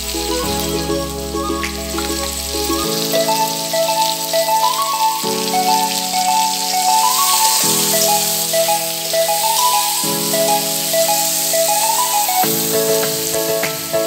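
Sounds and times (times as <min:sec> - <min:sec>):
chicken frying hiss: 0:00.0 - 0:13.5
background music melody: 0:00.0 - 0:14.0.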